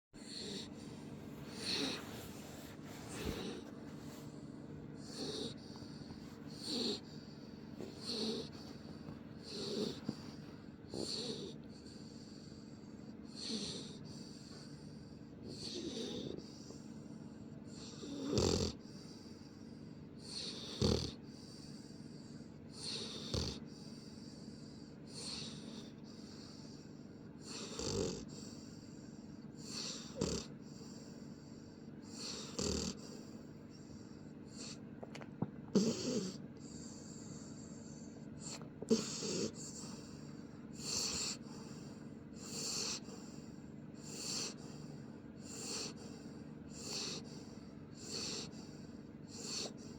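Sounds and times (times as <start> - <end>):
puppy snoring: 0.2 - 49.9.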